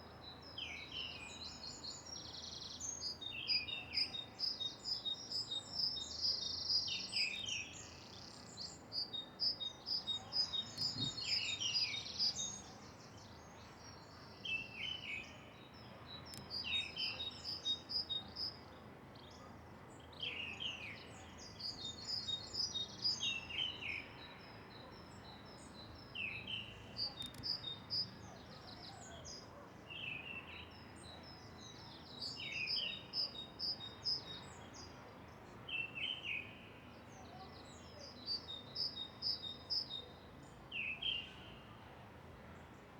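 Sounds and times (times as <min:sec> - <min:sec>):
low outdoor background noise: 0:00.0 - 0:42.9
songbirds singing and chirping: 0:00.0 - 0:42.9.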